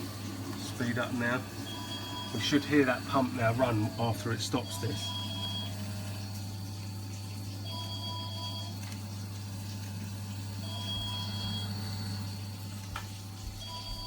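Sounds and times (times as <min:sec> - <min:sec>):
circulating pump humming: 0:00.0 - 0:14.0
water flowing through pipes: 0:00.0 - 0:14.0.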